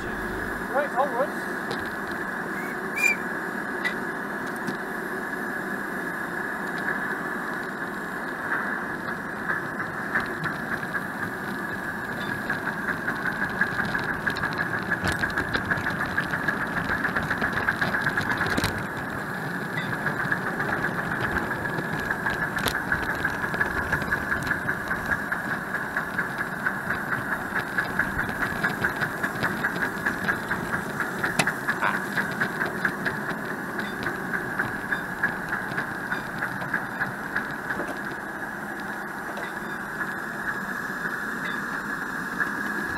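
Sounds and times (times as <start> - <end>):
miniature steam locomotive running: 0.0 - 42.9.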